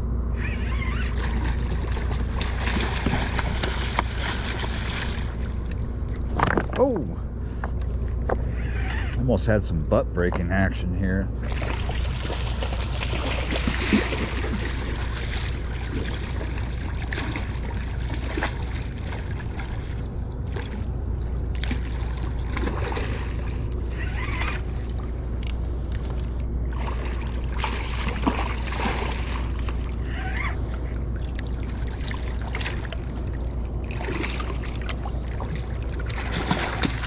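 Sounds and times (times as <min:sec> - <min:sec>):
low rumble: 0:00.0 - 0:37.0
river water lapping at shore: 0:00.3 - 0:10.7, 0:11.3 - 0:37.0.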